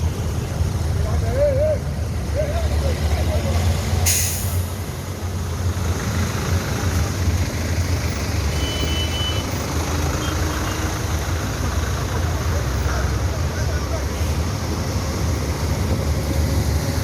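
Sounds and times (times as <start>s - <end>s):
heavy vehicle engine rumbling: 0.0s - 17.0s.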